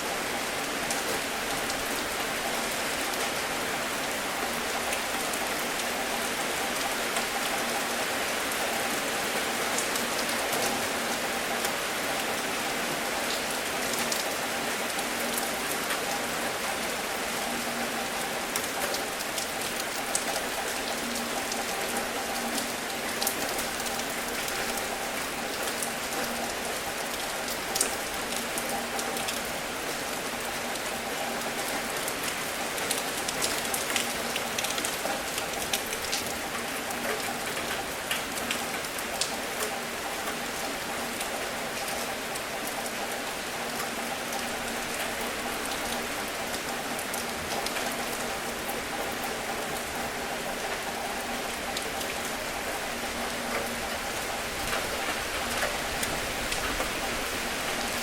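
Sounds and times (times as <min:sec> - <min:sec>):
rain drops ticking on surface: 0:00.0 - 0:58.0.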